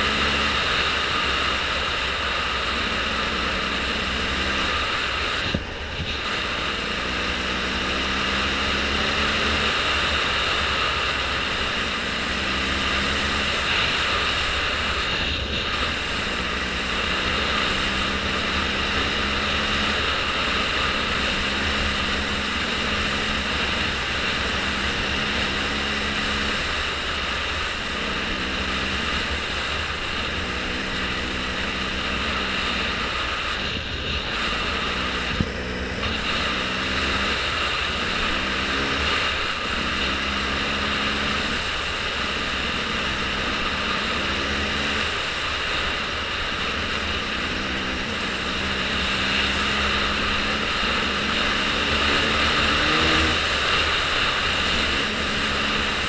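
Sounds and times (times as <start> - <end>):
engine running: 0.0 - 56.0
loud rush of noise: 0.0 - 56.0.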